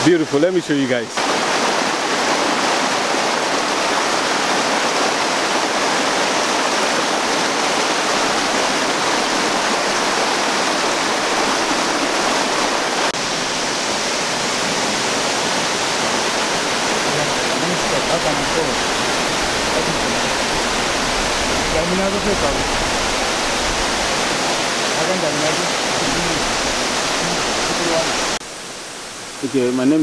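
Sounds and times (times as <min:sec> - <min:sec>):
waterfall splashing into pool: 0:00.6 - 0:28.5.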